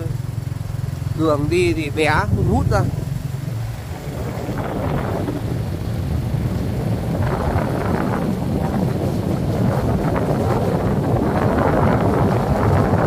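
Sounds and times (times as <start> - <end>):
motorbike engine: 0.0 - 13.0
wind rumbling on microphone: 0.0 - 13.0.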